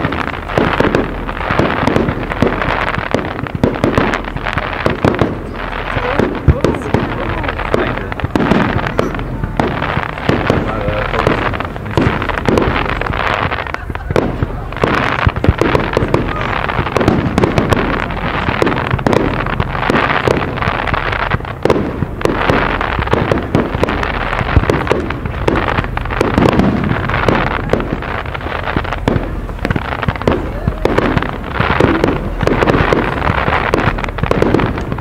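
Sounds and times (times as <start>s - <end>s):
firework shells bursting: 0.0s - 35.0s
fireworks crackle: 0.0s - 35.0s.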